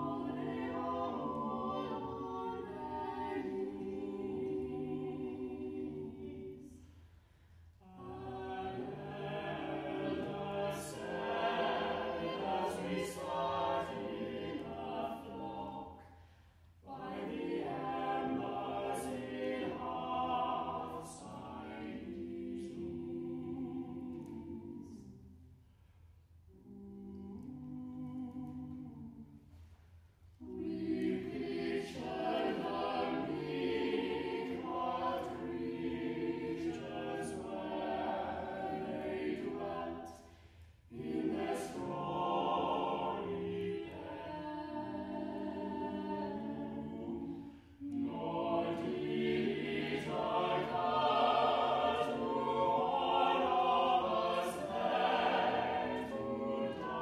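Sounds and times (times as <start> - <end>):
a cappella choir singing: 0.0 - 57.0.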